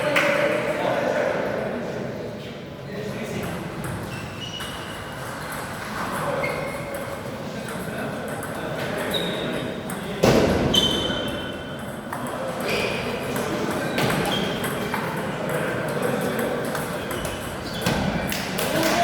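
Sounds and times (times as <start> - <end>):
murmur of voices: 0.0 - 3.8, 6.2 - 19.0.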